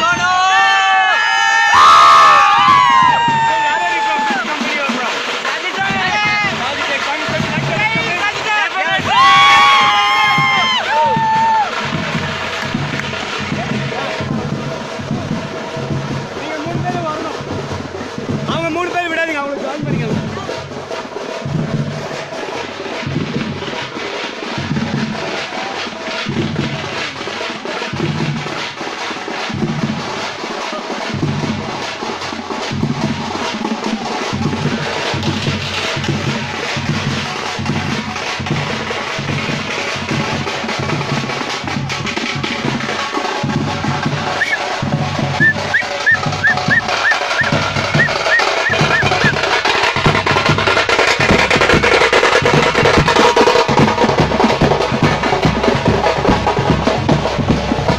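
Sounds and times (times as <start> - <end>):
frame drums beaten fast: 0.0 - 57.9
heavy low drum beats: 0.0 - 57.9.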